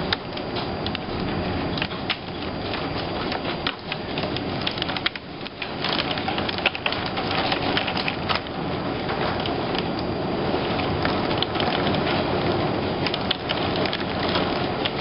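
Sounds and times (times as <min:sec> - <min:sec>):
raindrops ticking close by: 0:00.0 - 0:15.0.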